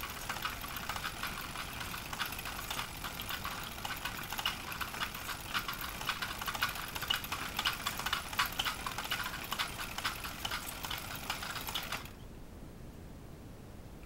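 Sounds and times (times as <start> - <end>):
film projector clattering: 0.0 - 12.2.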